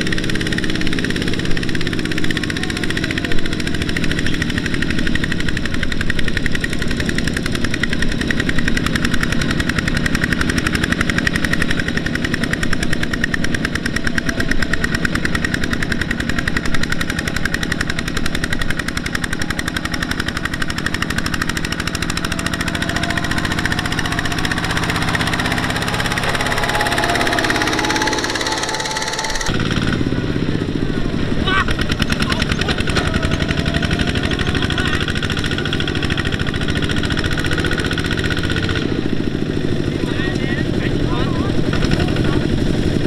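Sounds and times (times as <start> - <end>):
diesel engine chugging: 0.0 - 43.0.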